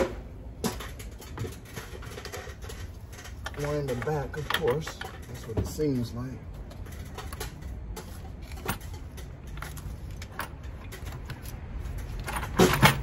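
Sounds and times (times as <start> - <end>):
hand tools clicking and knocking: 0.0 - 13.0
metal clatter: 0.0 - 13.0.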